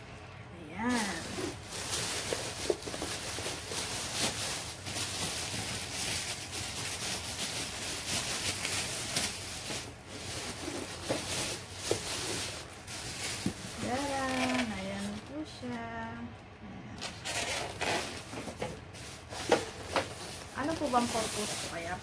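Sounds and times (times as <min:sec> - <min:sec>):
plastic packaging crinkling: 0:00.9 - 0:15.8, 0:17.0 - 0:22.0.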